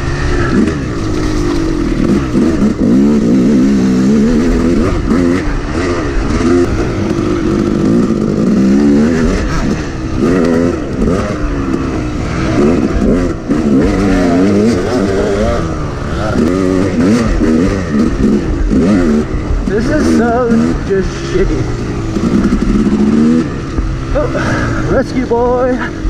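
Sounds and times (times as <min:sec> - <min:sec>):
wind rumble: 0:00.0 - 0:25.2
dirt bike engine revving: 0:00.0 - 0:26.0.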